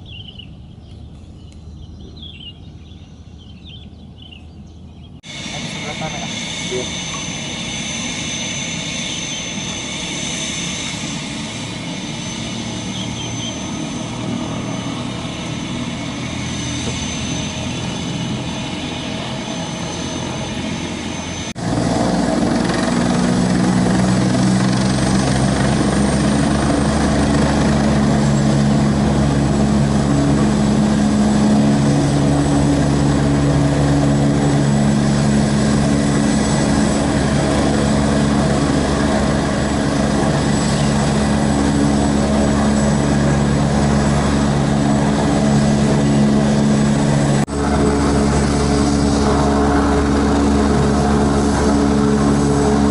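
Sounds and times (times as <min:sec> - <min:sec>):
helicopter turbine whine and rotor: 0:00.0 - 0:52.9.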